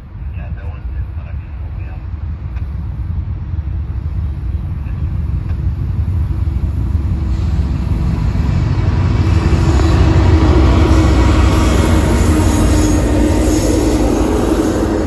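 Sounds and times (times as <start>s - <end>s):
diesel locomotives rumbling: 0.0s - 15.0s
low engine drone: 0.0s - 15.0s.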